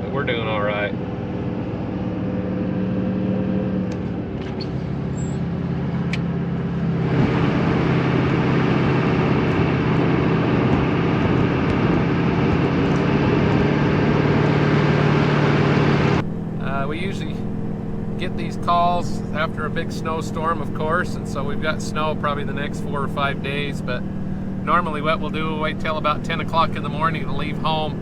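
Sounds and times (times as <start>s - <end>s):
tracked vehicle engine running: 0.0s - 28.0s.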